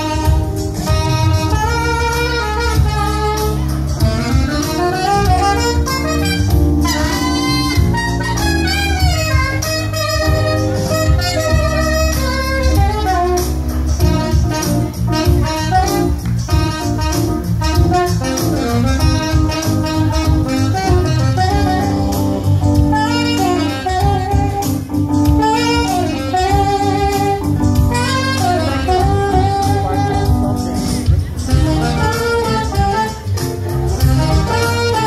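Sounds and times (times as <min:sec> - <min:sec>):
bass and beat accompaniment: 0:00.0 - 0:35.0
saxophone melody: 0:00.0 - 0:35.0.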